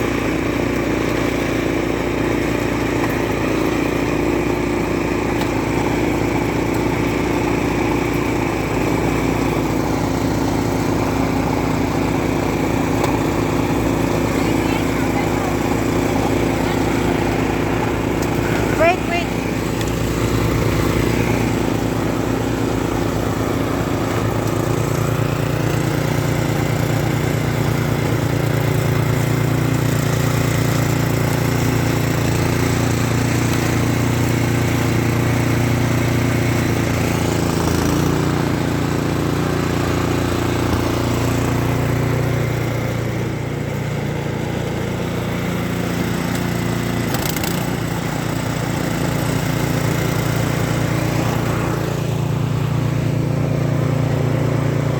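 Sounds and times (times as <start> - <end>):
snow blower engine running: 0.0 - 54.9.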